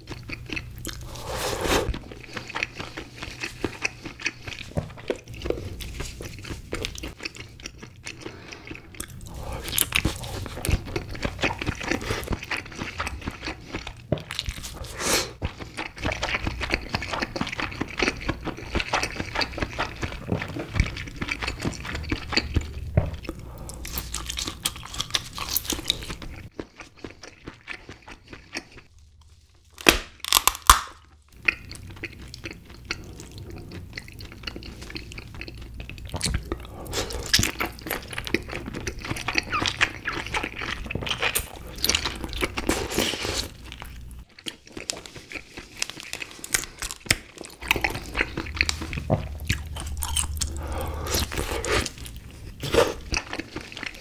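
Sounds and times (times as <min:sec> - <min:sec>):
crunchy chewing: 0:00.0 - 0:28.9, 0:30.2 - 0:54.0.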